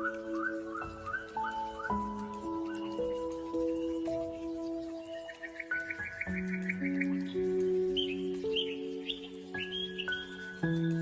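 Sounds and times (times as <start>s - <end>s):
high bird chirps: 0.0s - 11.0s
slow ambient music: 0.0s - 11.0s.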